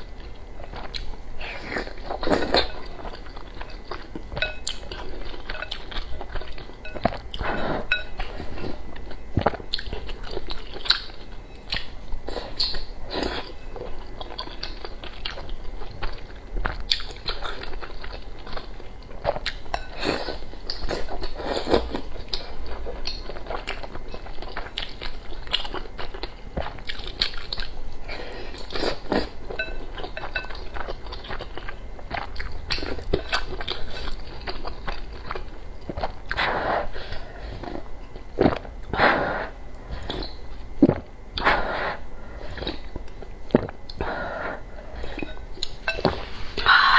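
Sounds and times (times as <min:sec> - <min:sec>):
person chewing crunchy food: 0:00.0 - 0:46.9.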